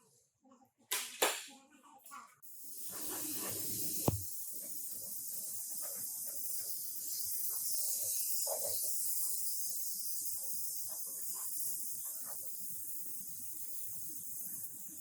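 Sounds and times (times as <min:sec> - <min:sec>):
steady high hiss: 0:02.5 - 0:15.0.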